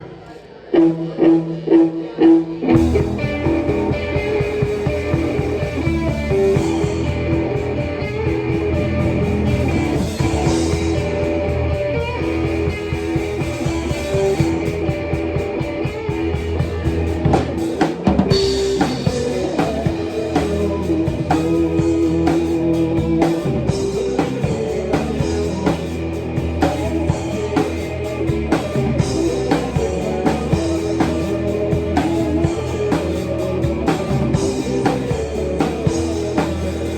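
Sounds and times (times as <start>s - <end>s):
live band playing: 2.7s - 36.9s
steady drumming: 2.8s - 36.9s.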